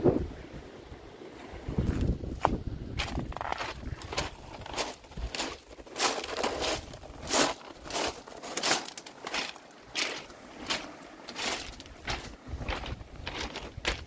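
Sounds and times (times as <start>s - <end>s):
footsteps crunching on pebbles: 1.8s - 14.0s.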